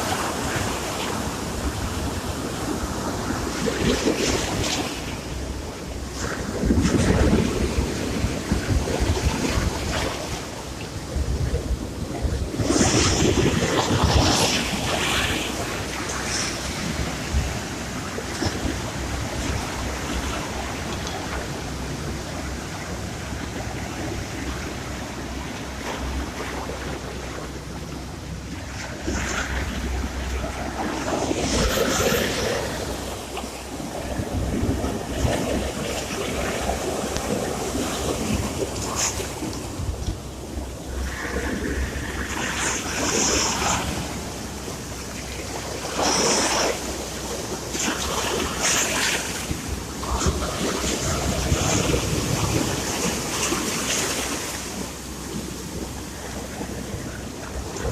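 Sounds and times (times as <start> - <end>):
sea waves washing on shore: 0.0 - 57.9
wind rumble on microphone: 0.0 - 57.9.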